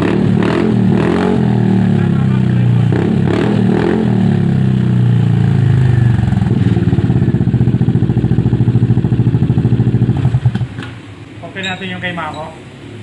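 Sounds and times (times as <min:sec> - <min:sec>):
scooter engine running: 0:00.0 - 0:10.8.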